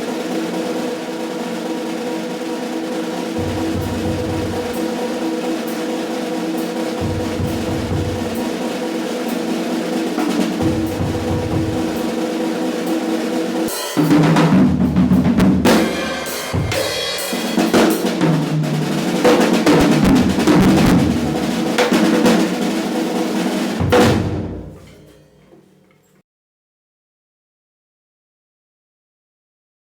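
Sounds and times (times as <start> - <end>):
drum kit playing: 0.0 - 25.5.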